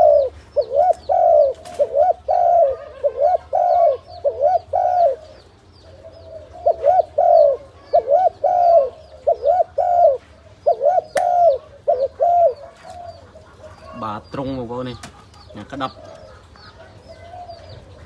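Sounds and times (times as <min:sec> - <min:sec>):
dove cooing: 0:00.0 - 0:18.0
small birds chirping: 0:00.0 - 0:18.0.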